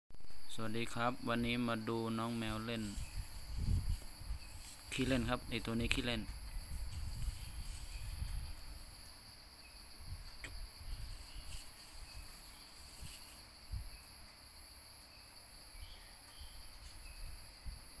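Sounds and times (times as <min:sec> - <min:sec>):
high-pitched insect chorus: 0:00.2 - 0:18.0.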